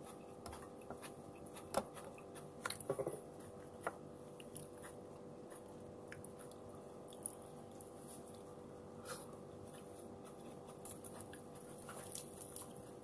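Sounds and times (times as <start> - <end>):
person chewing food: 0.0 - 8.6, 9.2 - 13.0.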